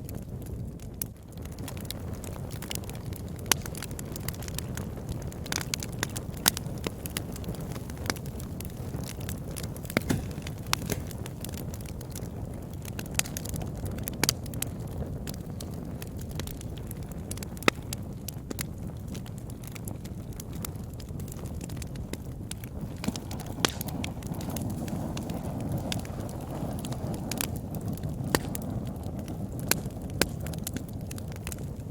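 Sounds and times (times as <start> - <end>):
wood fire crackling and popping: 0.0 - 31.9.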